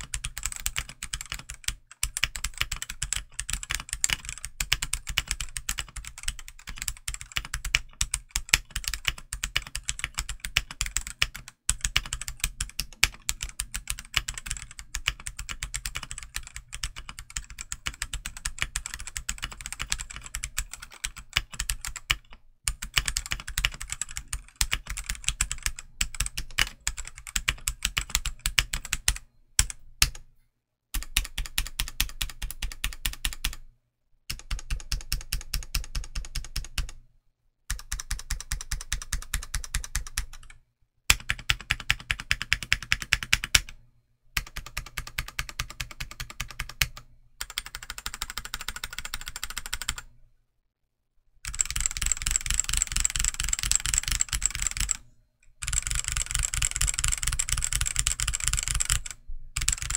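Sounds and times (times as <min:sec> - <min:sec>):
fast mechanical keyboard typing: 0:00.0 - 0:30.2, 0:31.0 - 0:33.6, 0:34.3 - 0:37.0, 0:37.7 - 0:43.8, 0:44.4 - 0:50.1, 0:51.4 - 0:55.0, 0:55.6 - 0:59.9.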